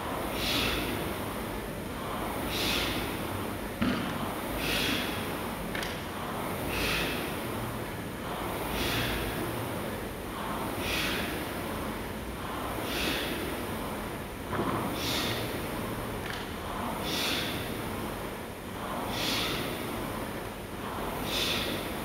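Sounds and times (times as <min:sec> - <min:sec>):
hard breathing: 0:00.0 - 0:22.0
rowing machine fan whoosh: 0:00.0 - 0:22.0.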